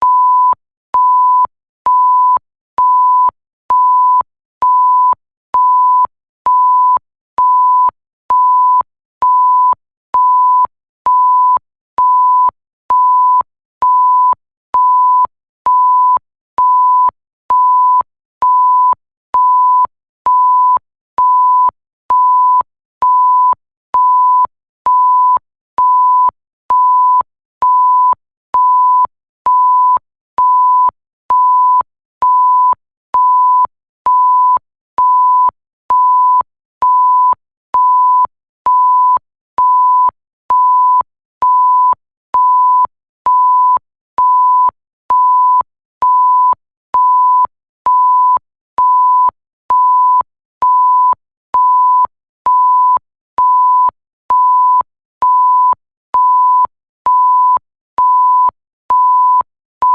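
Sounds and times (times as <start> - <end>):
electronic censor bleep: 0.0 - 59.9.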